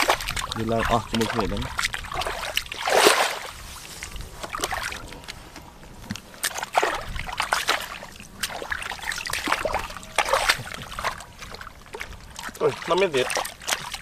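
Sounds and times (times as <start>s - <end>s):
shallow water splashing: 0.0s - 14.0s.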